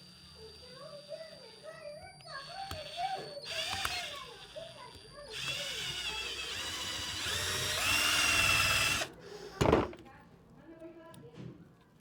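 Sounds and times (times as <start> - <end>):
electric drill whining: 0.0 - 9.8.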